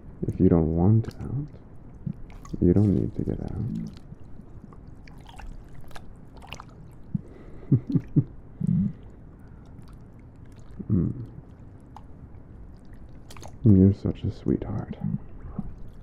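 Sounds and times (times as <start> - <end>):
stomach gurgling: 0.2 - 13.7, 14.7 - 16.0.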